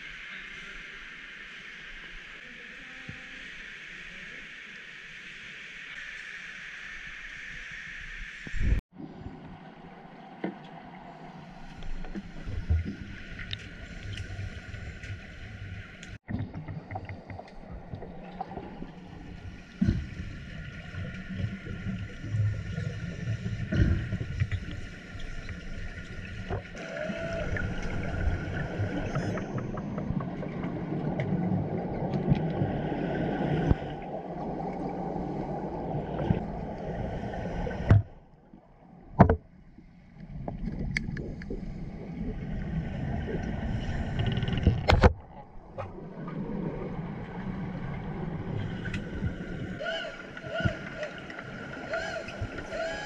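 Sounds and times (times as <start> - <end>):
underwater rumbling wash: 8.5 - 53.0.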